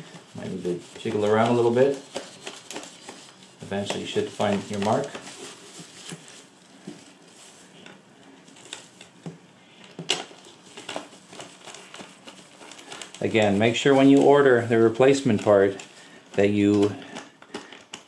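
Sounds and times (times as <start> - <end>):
fabric liner rustling: 0.0 - 9.2, 10.2 - 16.8.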